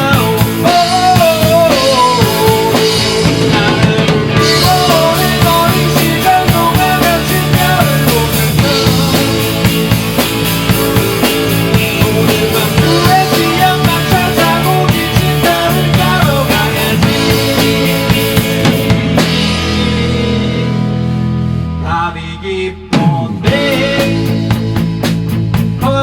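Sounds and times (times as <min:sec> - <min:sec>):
drum kit pounding: 0:00.0 - 0:21.8, 0:22.9 - 0:26.0
rock band playing live: 0:00.0 - 0:26.0.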